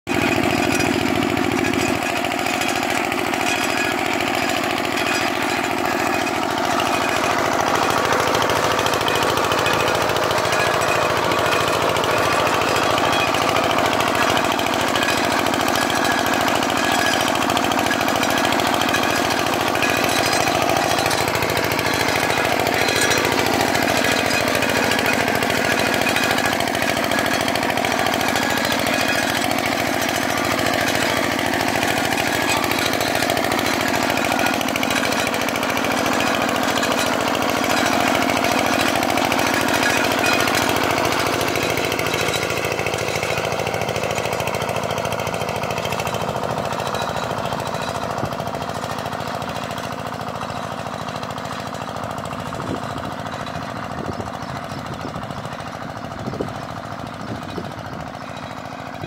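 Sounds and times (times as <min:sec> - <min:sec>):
diesel tiller engine chattering: 0:00.0 - 0:59.0.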